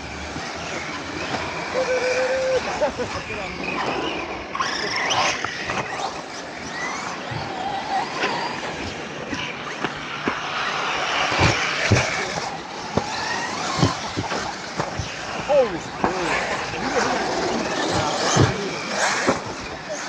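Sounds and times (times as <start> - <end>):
electric rc cars whining: 0.0 - 20.0
steady rushing noise: 0.0 - 20.0.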